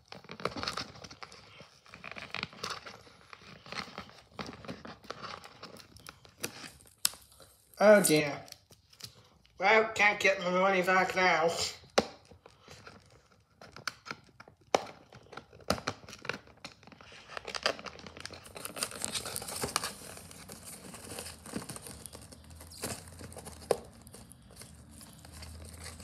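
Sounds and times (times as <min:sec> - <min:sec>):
packaging crinkling and tearing: 0:00.0 - 0:09.6, 0:11.0 - 0:26.0.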